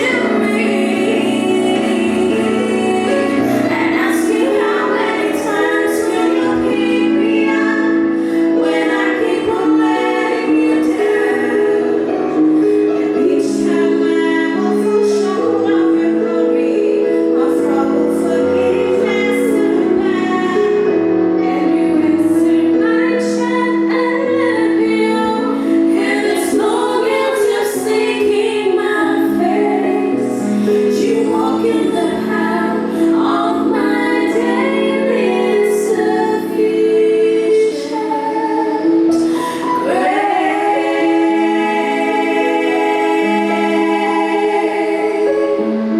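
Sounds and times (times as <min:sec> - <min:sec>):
vocal group singing in harmony: 0:00.0 - 0:45.9.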